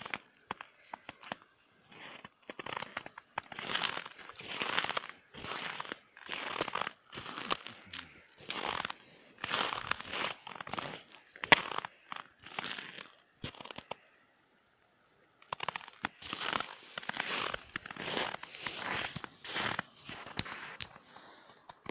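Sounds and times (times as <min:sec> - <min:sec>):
footsteps crunching through snow: 0:00.0 - 0:14.0, 0:15.5 - 0:21.9.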